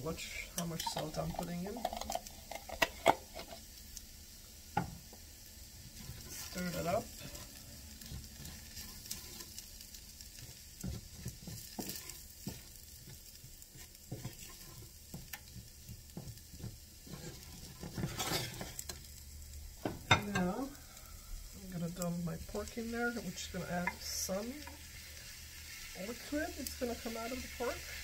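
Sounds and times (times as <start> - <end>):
faint sizzle: 0.0 - 28.0
wooden spoon scraping a pan: 0.2 - 3.6, 6.0 - 19.1, 21.7 - 28.0.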